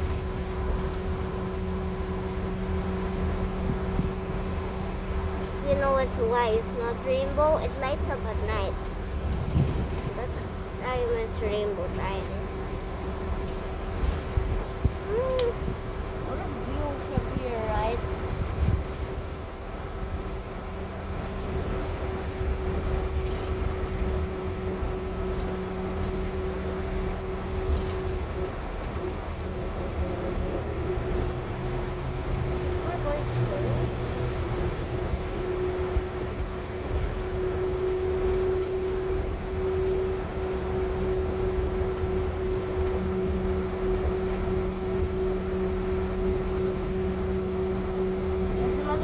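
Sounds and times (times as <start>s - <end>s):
train cabin rumble: 0.0s - 49.0s.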